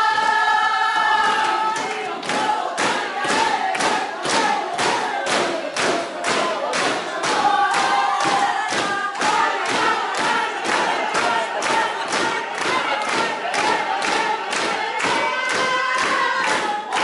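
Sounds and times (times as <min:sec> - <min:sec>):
crowd singing or chanting: 0:00.0 - 0:17.0
rhythmic claps and thumps: 0:00.0 - 0:17.0.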